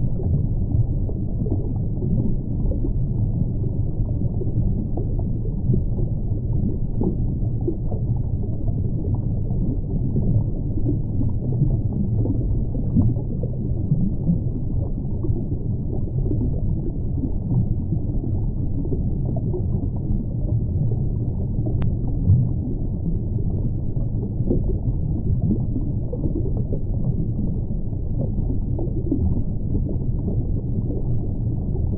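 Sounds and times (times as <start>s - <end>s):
low rumble of moving water: 0.0s - 31.9s.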